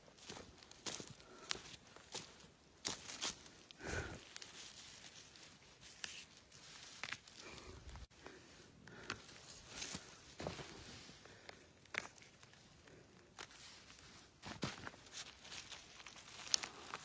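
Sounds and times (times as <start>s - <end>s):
footsteps through undergrowth: 0.0s - 8.3s, 9.1s - 17.0s
faint clicks and crackles: 2.8s - 17.0s.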